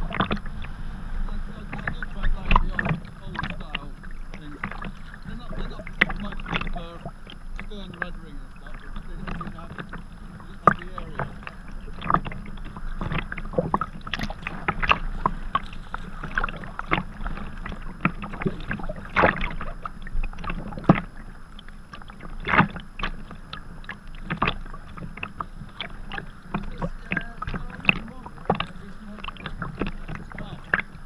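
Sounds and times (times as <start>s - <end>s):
paddle splashing water: 0.0s - 31.0s
wind rumble on microphone: 0.0s - 31.0s.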